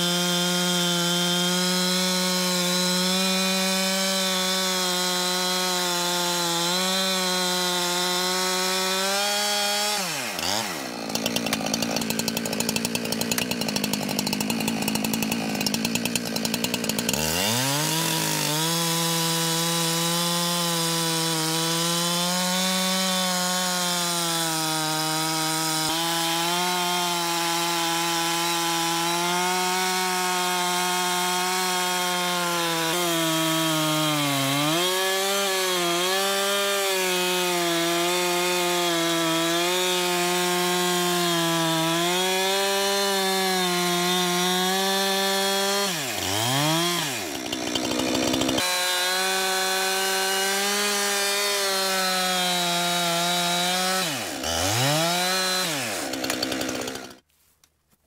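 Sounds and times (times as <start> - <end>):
chainsaw cutting log: 0.0 - 57.3.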